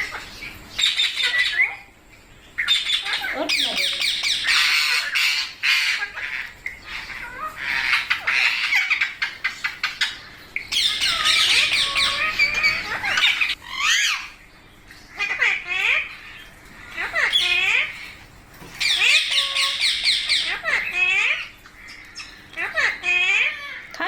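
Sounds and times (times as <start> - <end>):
parakeets squawking and chattering: 0.0 - 24.0.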